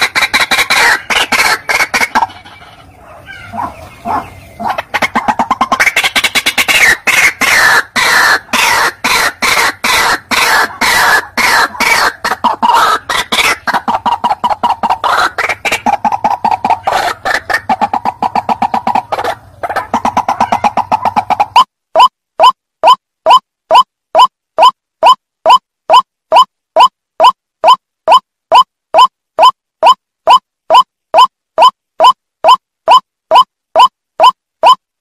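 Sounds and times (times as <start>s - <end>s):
waterhen calling harsh repeated notes: 0.0s - 34.8s.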